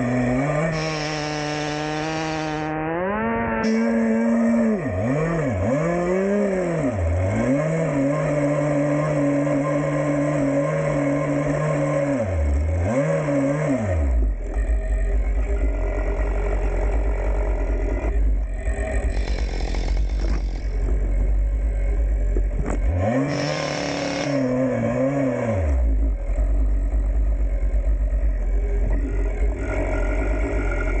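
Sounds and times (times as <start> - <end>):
chainsaw revving and idling: 0.0 - 31.0.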